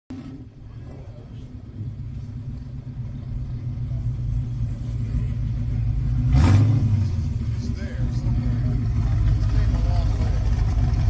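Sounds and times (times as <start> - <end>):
car engine rumbling: 0.1 - 11.0.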